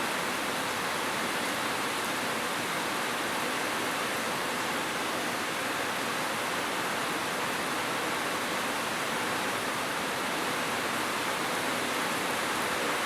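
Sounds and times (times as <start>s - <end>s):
heavy rain on a roof: 0.0s - 13.0s.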